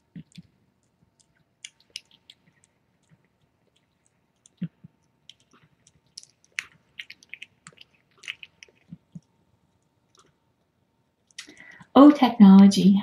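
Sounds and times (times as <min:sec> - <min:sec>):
cat chewing wet food: 0:00.0 - 0:11.8.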